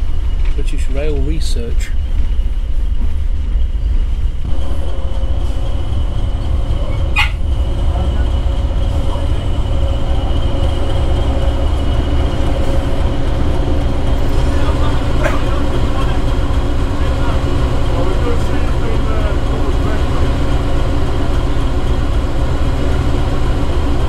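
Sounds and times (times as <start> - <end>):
faint steady whine: 0.0 - 24.0
railway carriage rumbling: 0.0 - 24.0.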